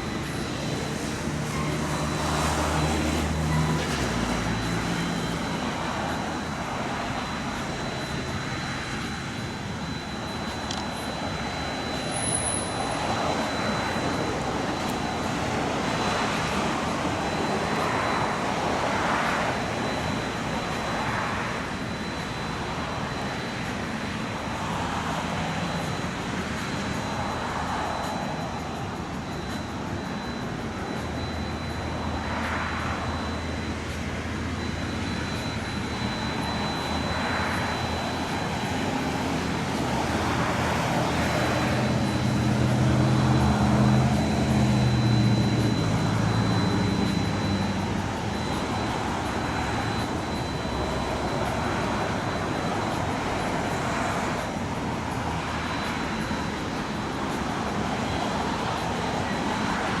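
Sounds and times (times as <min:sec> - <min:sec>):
loud rumble with engine hum: 0:00.0 - 1:00.0.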